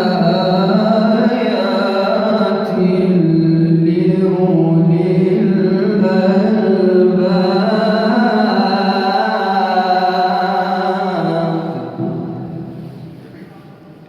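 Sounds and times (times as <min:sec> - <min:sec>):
man chanting melodically: 0:00.0 - 0:12.8.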